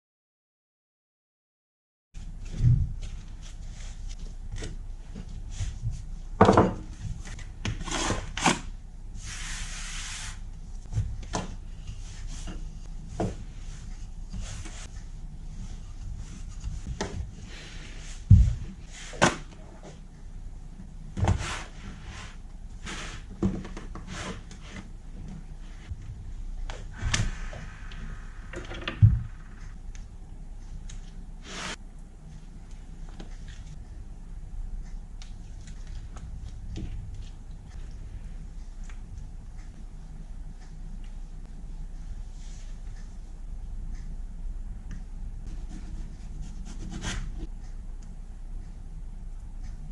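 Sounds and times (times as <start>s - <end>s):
steady low hum: 2.2s - 49.9s.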